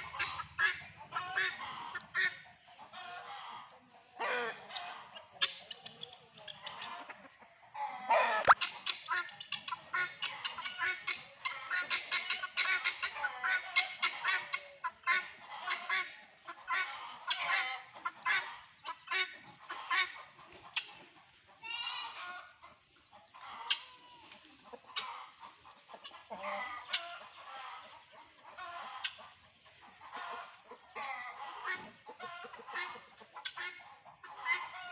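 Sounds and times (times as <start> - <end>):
guineafowl calling: 0.0 - 3.5, 4.2 - 21.0, 23.2 - 29.4, 30.0 - 34.9.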